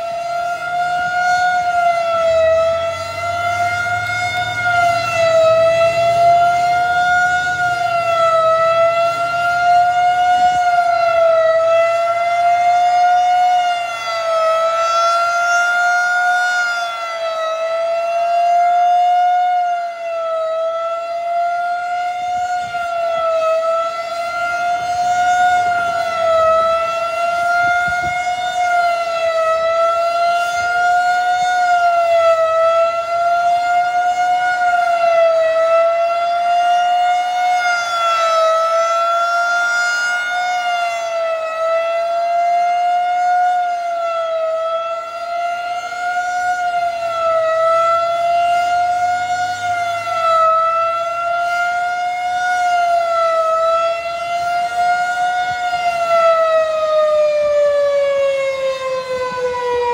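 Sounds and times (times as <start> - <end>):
rotating warning siren: 0.0 - 59.9.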